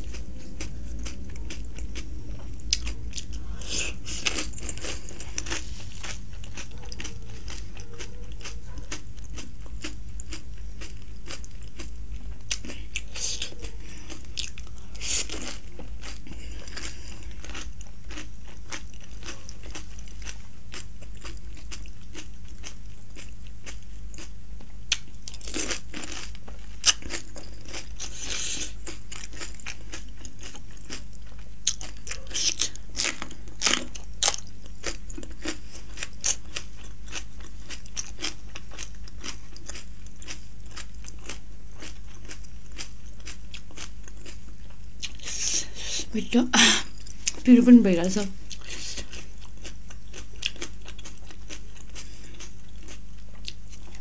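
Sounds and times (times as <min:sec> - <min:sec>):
chewing and crunching food: 0:00.0 - 0:45.8, 0:46.5 - 0:54.0
steady low hum: 0:00.0 - 0:54.0.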